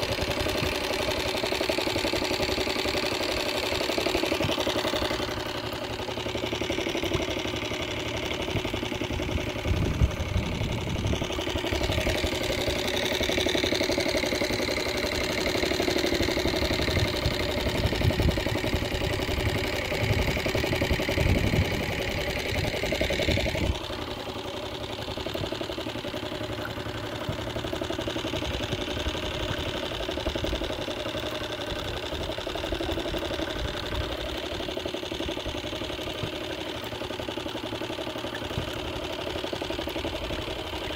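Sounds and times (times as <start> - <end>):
small boat motor running: 0.0 - 40.9.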